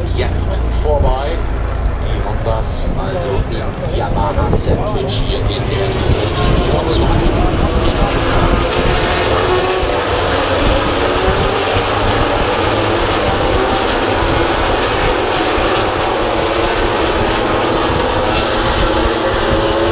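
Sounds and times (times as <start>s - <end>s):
racing motorcycles passing: 0.0s - 19.9s.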